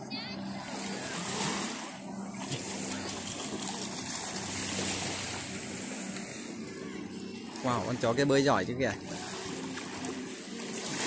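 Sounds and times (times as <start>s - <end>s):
distant motorboat engine hum: 0.0s - 11.0s
small waves splashing on shore: 0.4s - 11.0s.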